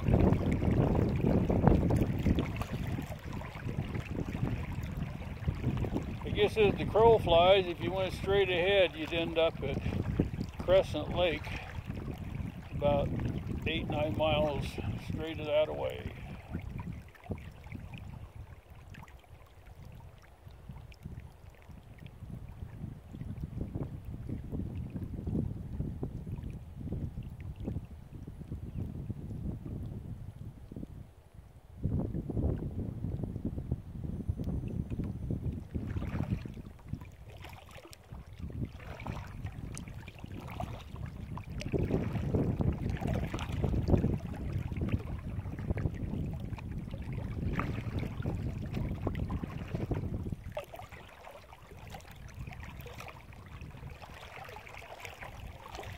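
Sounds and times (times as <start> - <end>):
waves lapping against kayak hull: 0.0 - 31.0, 34.2 - 55.9
wind rumble on microphone: 0.0 - 55.9.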